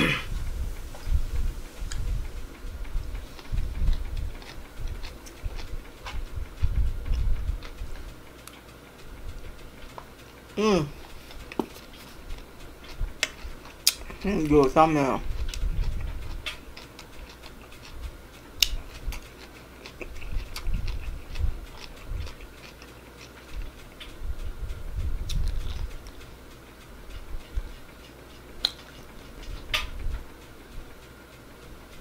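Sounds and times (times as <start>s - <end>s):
person chewing food: 0.0s - 8.6s, 9.2s - 30.3s.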